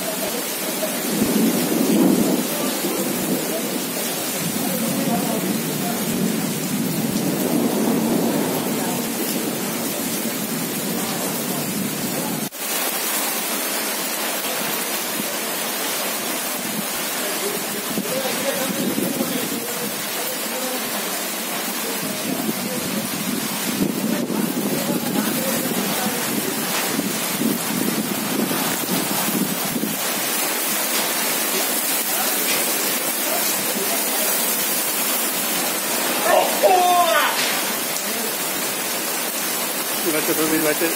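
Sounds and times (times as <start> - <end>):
heavy rain on wet pavement: 0.0 - 40.9.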